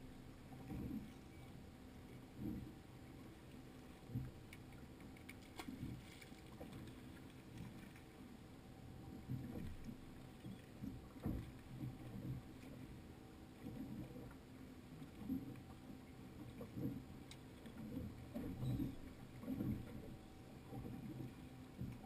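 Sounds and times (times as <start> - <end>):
waves slapping against boat hull: 0.0 - 1.2, 1.8 - 22.0
faint steady hum: 0.0 - 22.0.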